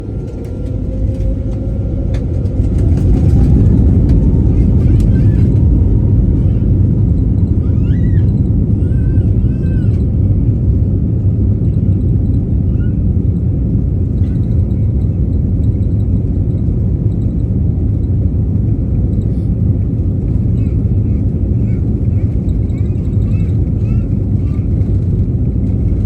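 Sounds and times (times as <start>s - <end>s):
jet engines at take-off power: 0.0s - 26.0s
airframe shaking: 0.1s - 10.8s, 11.6s - 26.0s.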